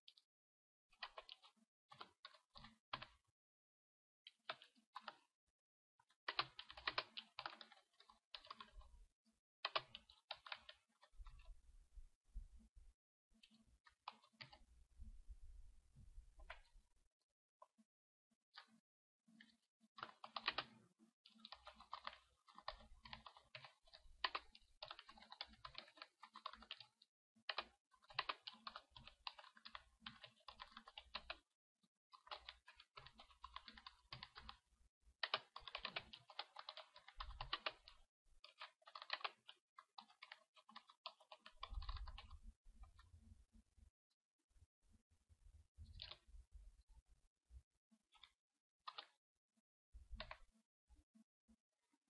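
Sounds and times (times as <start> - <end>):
faint typing on keyboard: 0.1 - 0.3, 0.9 - 3.3, 4.2 - 5.4, 6.0 - 11.8, 13.3 - 15.2, 16.1 - 16.9, 18.5 - 43.9, 44.6 - 49.2, 50.0 - 52.0.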